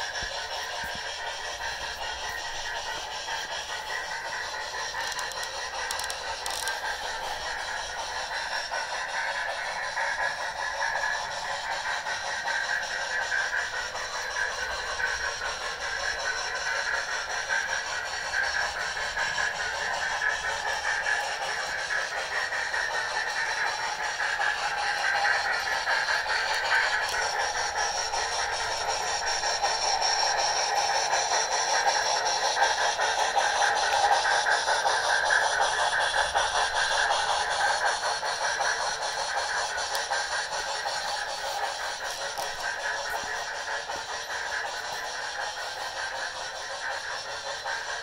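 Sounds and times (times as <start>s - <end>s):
model locomotive steam hiss: 0.0s - 48.0s
model train wheels on track: 0.0s - 48.0s.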